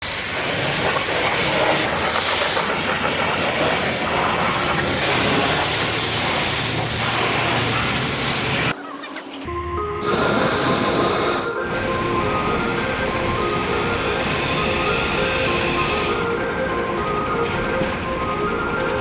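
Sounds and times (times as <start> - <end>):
pressure washer spraying water: 0.0 - 8.8, 10.0 - 16.6.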